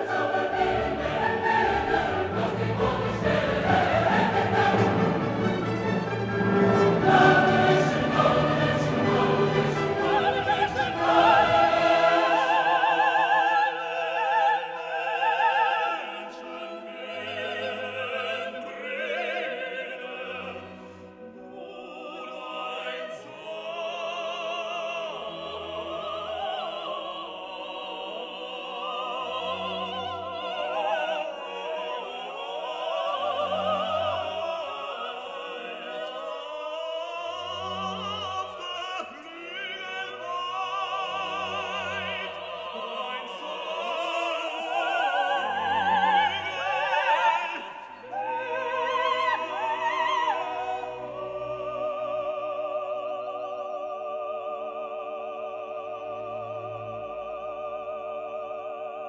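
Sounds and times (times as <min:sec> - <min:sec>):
operatic singing with orchestra: 0:00.0 - 0:59.0.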